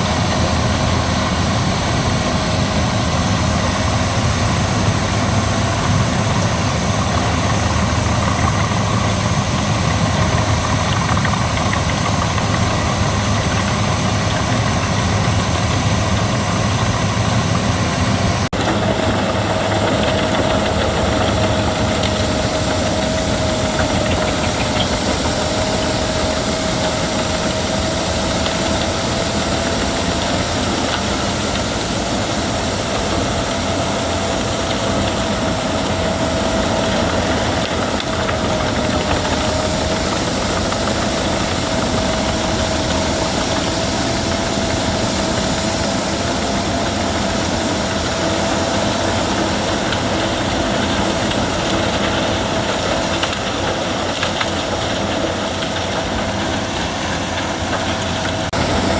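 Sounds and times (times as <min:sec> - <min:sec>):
steady whine: 0:00.0 - 0:58.9
wood chipper running: 0:00.0 - 0:58.9.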